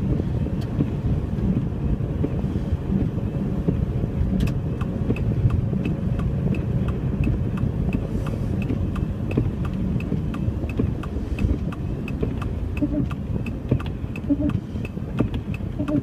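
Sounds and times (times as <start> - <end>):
car engine and tyre rumble: 0.0 - 16.0
turn signal ticking: 0.0 - 16.0.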